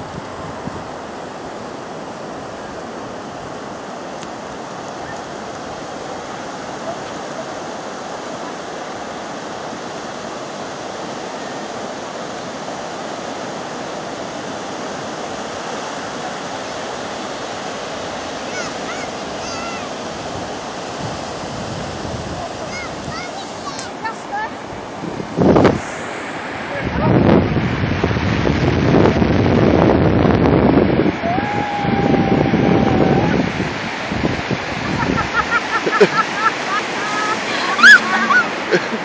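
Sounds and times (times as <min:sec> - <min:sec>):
surf washing up beach: 0:00.0 - 0:39.0.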